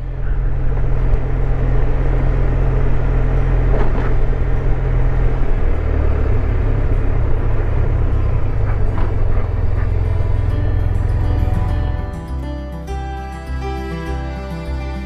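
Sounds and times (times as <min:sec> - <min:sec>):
wind and road noise: 0:00.0 - 0:12.5
scooter engine hum: 0:00.0 - 0:15.0.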